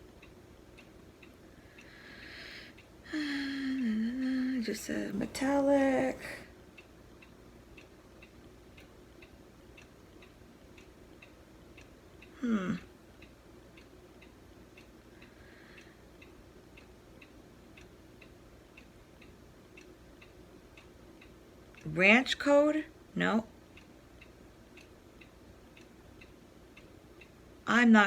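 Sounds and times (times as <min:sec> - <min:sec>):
clock ticking: 0:00.0 - 0:28.0.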